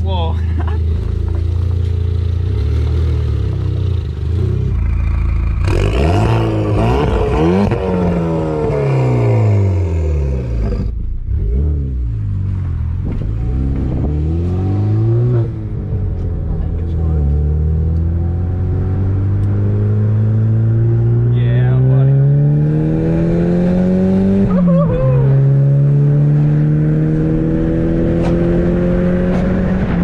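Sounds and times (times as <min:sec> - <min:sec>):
car engine revving: 0:00.9 - 0:30.0.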